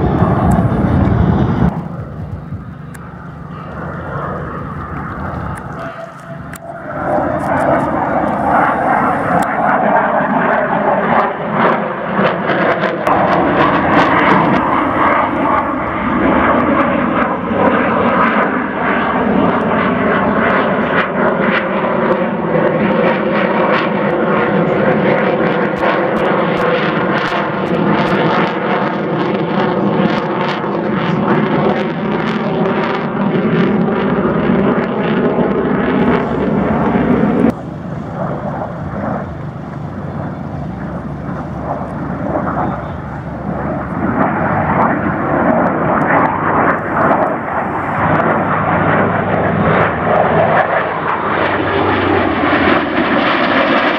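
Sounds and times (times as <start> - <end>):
loud jet noise: 0.0 - 53.9.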